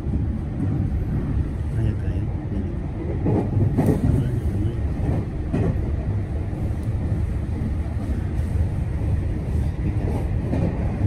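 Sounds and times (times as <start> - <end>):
train carriage rattling: 0.0 - 11.0
train wheels rumbling on track: 0.0 - 11.0.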